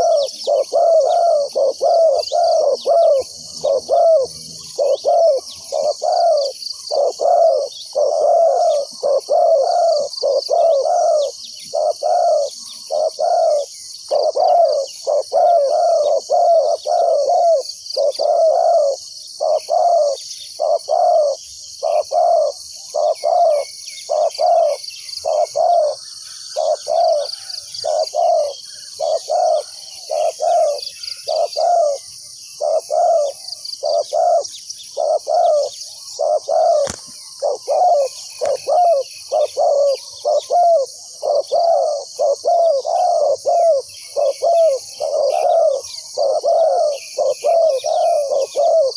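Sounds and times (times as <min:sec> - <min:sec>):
doves cooing: 0:00.0 - 0:48.9
faint chirps: 0:00.0 - 0:48.9.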